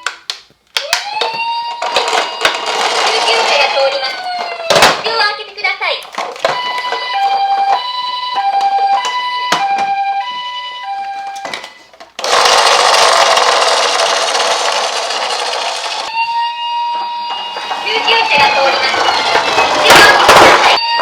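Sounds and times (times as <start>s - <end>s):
toy siren two-tone hi-lo: 0.9s - 4.9s, 6.4s - 21.0s.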